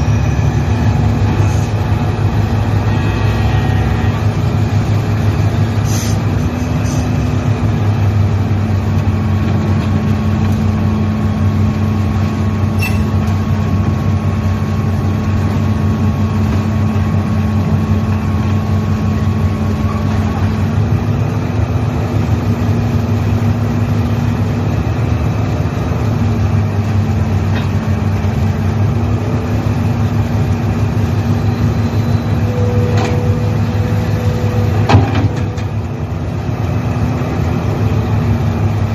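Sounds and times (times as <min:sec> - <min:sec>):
heavy diesel engine under load: 0:00.0 - 0:38.9.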